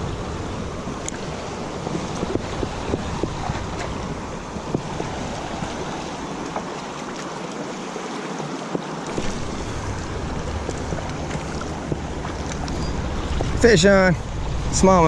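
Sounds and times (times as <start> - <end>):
creek water over rocks: 0.0 - 15.0
wind rumbling on microphone: 0.0 - 15.0.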